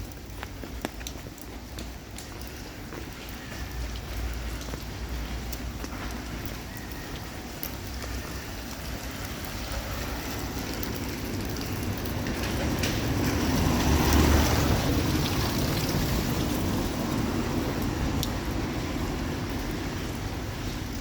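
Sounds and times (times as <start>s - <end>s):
steady rain on street: 0.0s - 21.0s
vehicle passing on wet road: 0.0s - 21.0s.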